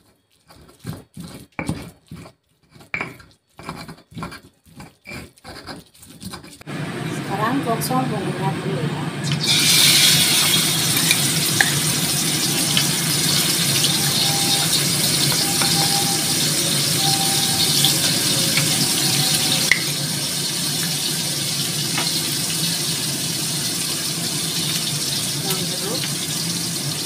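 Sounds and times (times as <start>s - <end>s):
spice paste sizzling in oil: 0.0s - 6.7s, 9.2s - 27.0s.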